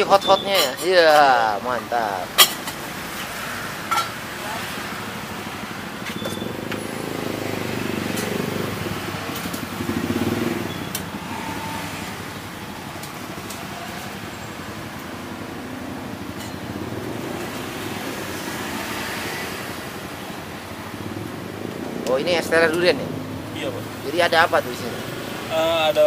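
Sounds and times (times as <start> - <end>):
street traffic hum: 0.0 - 26.0
vehicle passing: 1.3 - 26.0.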